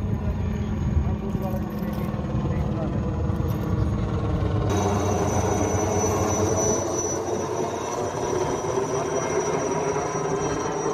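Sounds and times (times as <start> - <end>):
helicopter rotor and engine: 0.0 - 10.9
high whine: 2.0 - 10.9.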